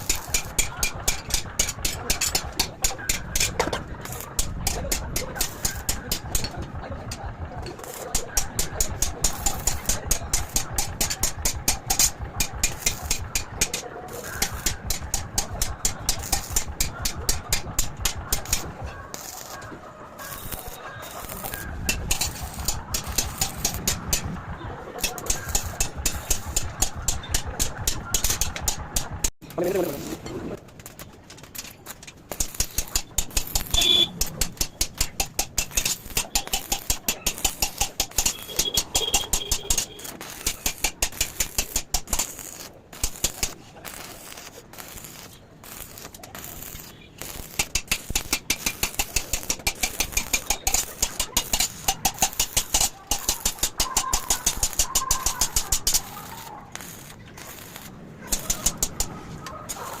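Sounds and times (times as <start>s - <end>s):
metal tapping on iron bars: 0.0s - 19.8s, 20.4s - 24.4s, 25.0s - 29.6s, 30.8s - 44.5s, 45.1s - 59.8s.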